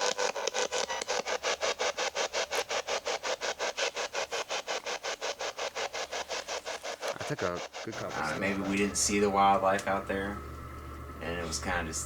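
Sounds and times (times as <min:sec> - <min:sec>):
radio static pulses: 0:00.0 - 0:12.0.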